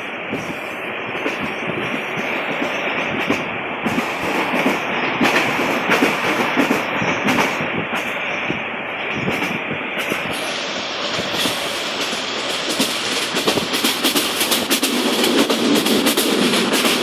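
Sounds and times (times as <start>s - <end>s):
train rumbling and rattling: 0.0s - 17.0s
wheels clicking on rails: 0.0s - 17.0s.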